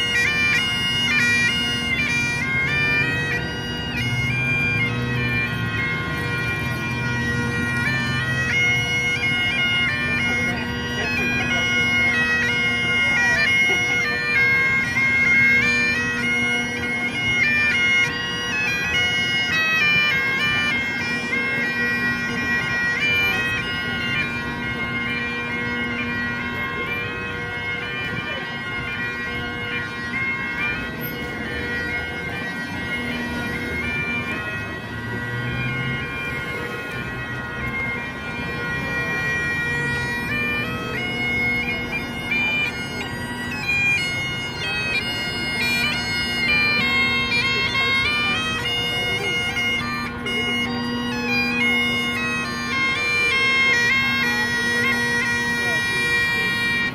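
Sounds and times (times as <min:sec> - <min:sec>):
bagpipes playing: 0:00.0 - 0:56.9.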